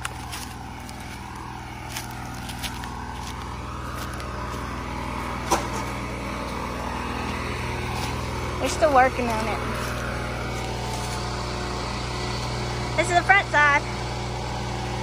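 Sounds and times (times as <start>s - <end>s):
footsteps on dry leaves and gravel: 0.0s - 13.0s
engine drone: 0.0s - 15.0s.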